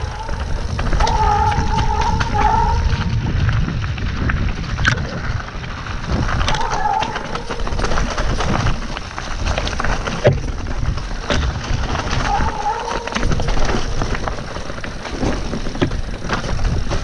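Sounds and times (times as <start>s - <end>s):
bike rattling over bumps: 0.0s - 17.0s
bike tyres crunching over stones: 0.0s - 17.0s
wind rumbling on microphone: 0.0s - 17.0s.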